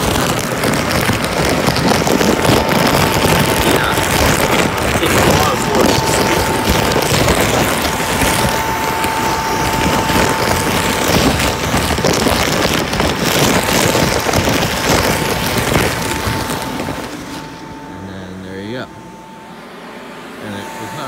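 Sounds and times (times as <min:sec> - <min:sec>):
blower fan rushing: 0:00.0 - 0:21.0
plastic tarps rustling: 0:00.0 - 0:21.0
steady high hum: 0:00.0 - 0:21.0.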